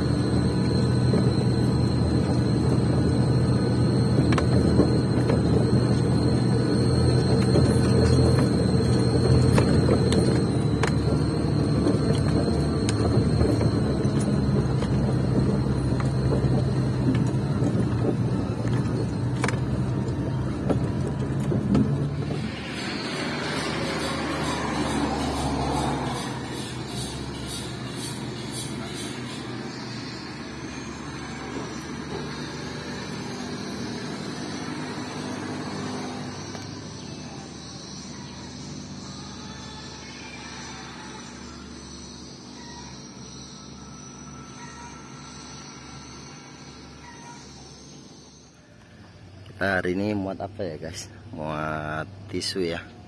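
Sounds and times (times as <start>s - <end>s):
truck diesel engine droning: 0.0s - 53.0s.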